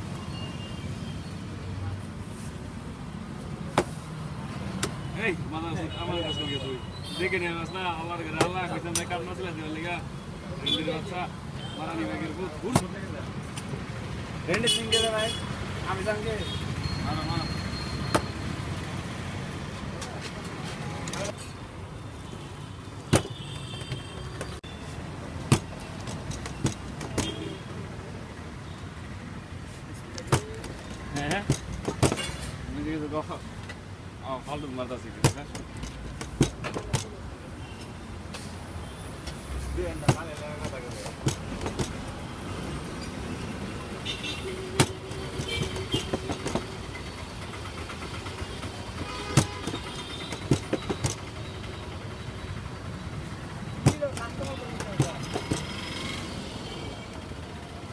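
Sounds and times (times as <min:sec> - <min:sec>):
street traffic hum: 0:00.0 - 0:57.9.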